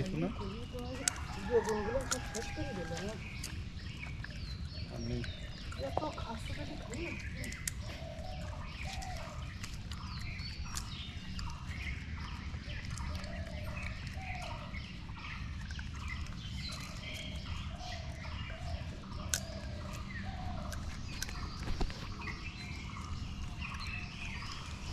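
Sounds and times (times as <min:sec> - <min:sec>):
birds calling and chirping: 0:00.0 - 0:24.9
steady low rumble: 0:02.6 - 0:24.9.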